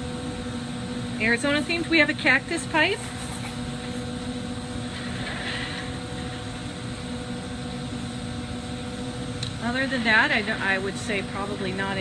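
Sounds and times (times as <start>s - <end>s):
constant low hum: 0.0s - 12.0s
ventilation running: 0.0s - 12.0s.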